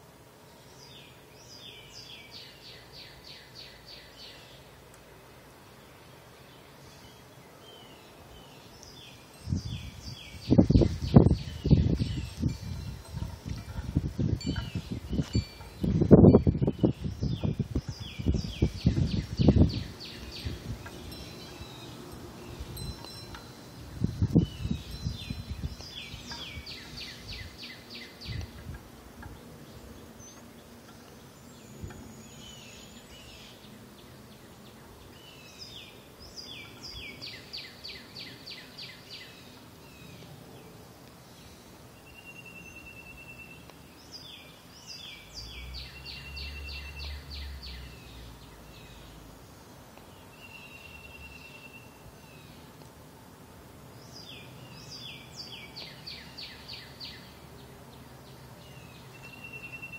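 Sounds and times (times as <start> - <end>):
songbird singing falling notes: 6.5 - 40.3, 41.0 - 52.9, 54.0 - 59.9.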